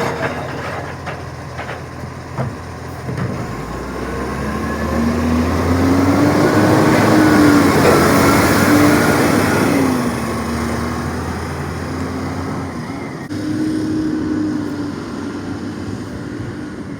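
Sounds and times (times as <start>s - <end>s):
garbage truck engine running: 0.0s - 16.9s.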